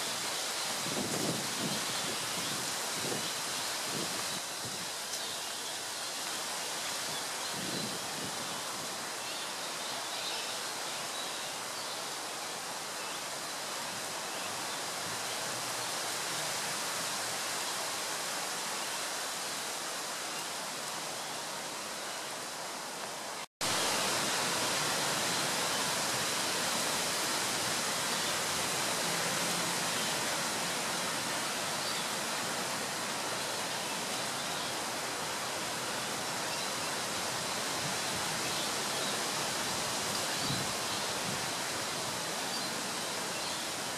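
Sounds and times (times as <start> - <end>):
outdoor background hiss: 0.0 - 43.9.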